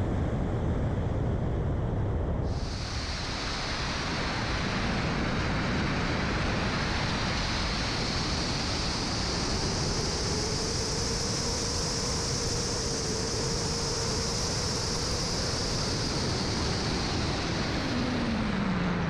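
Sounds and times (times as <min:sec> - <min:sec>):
airflow hissing past glider: 0:02.5 - 0:19.0.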